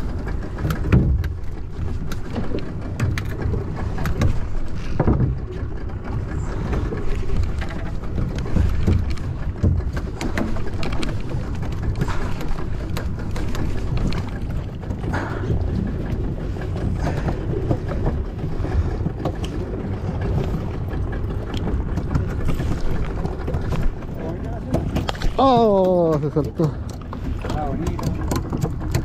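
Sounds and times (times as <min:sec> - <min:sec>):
boat engine low rumble: 0:00.0 - 0:29.0.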